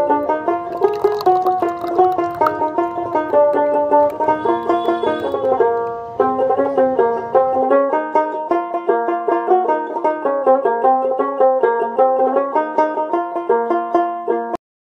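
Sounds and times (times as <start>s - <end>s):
plucked string instrument: 0.0s - 14.6s.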